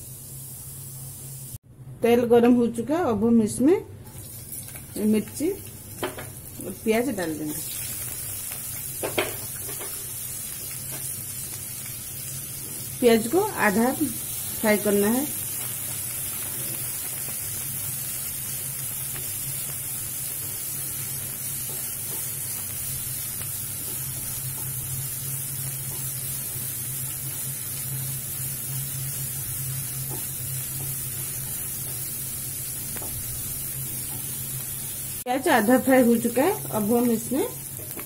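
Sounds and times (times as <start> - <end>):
onion and chilli sizzling in oil: 0.0 - 1.6, 3.5 - 38.0.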